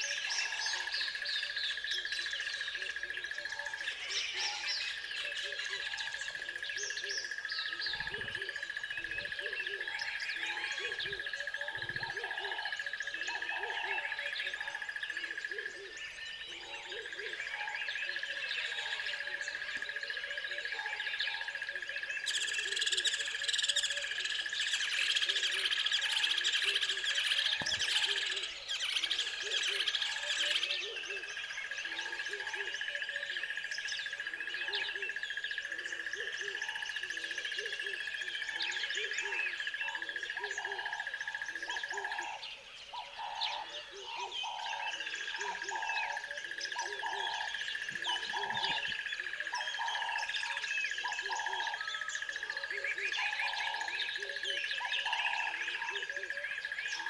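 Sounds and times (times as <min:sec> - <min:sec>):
chorus of birds chirping: 0:00.0 - 0:57.0.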